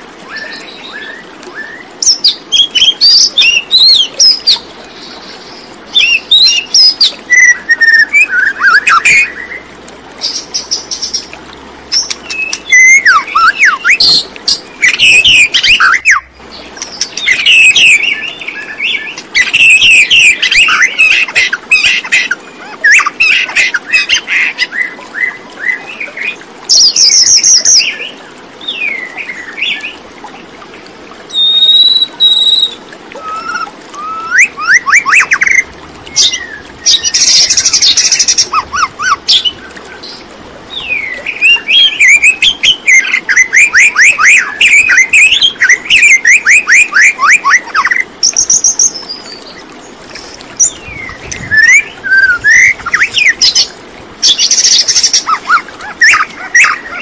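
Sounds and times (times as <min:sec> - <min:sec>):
bird chirping and trilling: 0:00.3 - 0:11.3, 0:11.9 - 0:30.0, 0:31.3 - 0:57.0.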